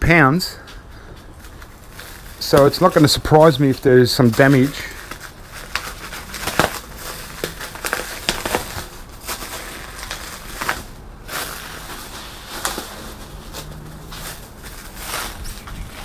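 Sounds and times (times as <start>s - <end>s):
plastic wrapping tearing and crinkling: 1.4s - 16.0s.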